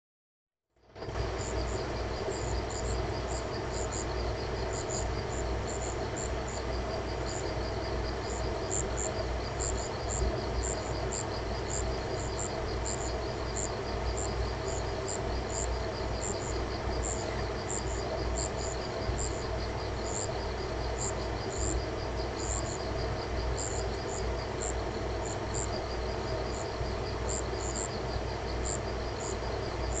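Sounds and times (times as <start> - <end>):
steady low hum: 0.8 - 30.0
insects trilling: 0.9 - 30.0
paired insect chirps: 1.1 - 30.0.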